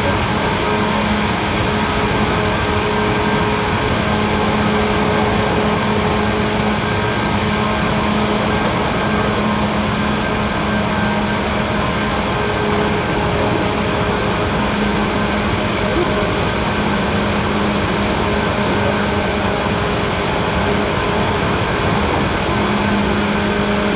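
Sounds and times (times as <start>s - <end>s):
electric train running rumble: 0.0s - 23.9s.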